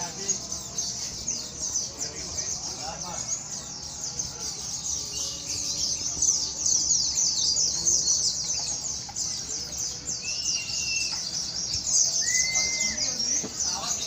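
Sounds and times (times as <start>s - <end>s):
birds twittering: 0.0s - 14.0s
low whistled bird notes: 0.0s - 14.0s.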